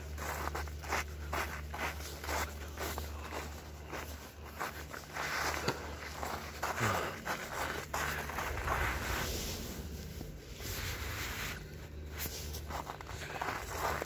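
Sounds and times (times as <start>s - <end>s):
clothing rustle: 0.0s - 14.0s
footsteps: 0.0s - 14.0s
steady low rumble: 0.0s - 14.0s.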